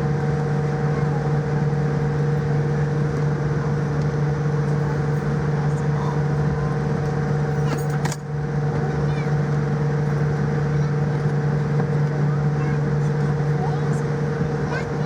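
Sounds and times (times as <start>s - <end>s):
air-conditioning rush: 0.0s - 15.0s
constant low hum: 0.0s - 15.0s
jet engines idling: 0.0s - 15.0s.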